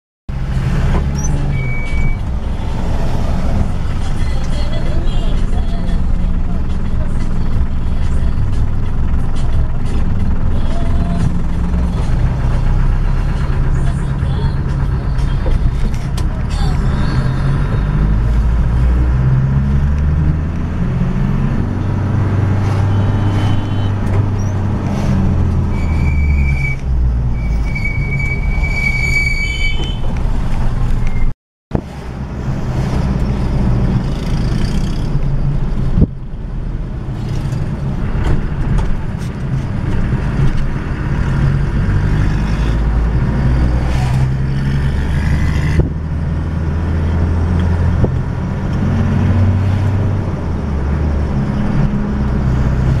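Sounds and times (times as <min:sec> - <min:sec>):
vehicle engine running inside cab: 0:00.3 - 0:28.4, 0:31.8 - 0:53.0
road and traffic noise: 0:00.3 - 0:53.0.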